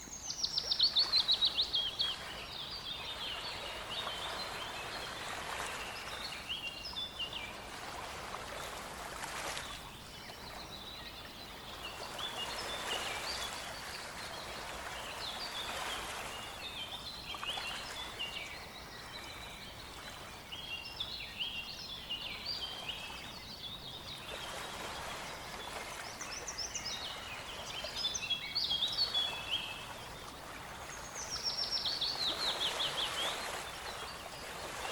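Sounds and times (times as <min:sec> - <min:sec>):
songbirds singing and chirping: 0:00.0 - 0:08.5, 0:09.2 - 0:34.9.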